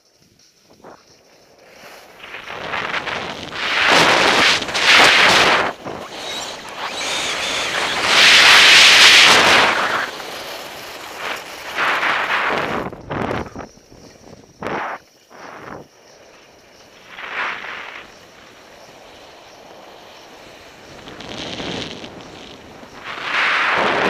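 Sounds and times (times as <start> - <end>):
skis scraping over snow: 0.0 - 24.0
wind on microphone: 2.1 - 16.0, 16.9 - 24.0.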